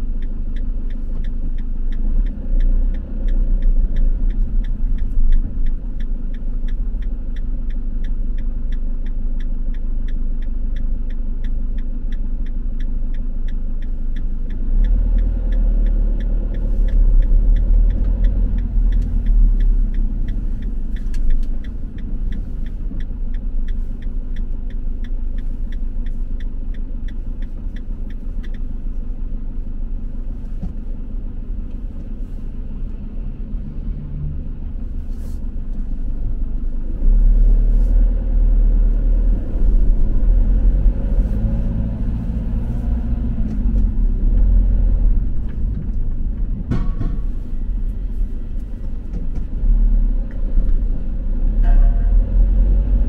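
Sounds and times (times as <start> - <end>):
turn indicator ticking: 0.0 - 53.0
vehicle engine and road rumble: 0.0 - 53.0.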